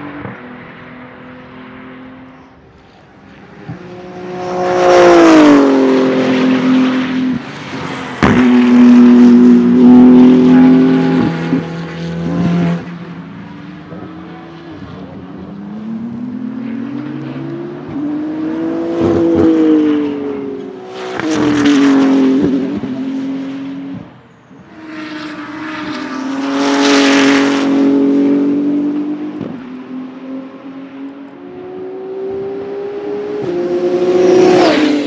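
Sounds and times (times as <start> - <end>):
race car engine passing: 0.0 - 35.0.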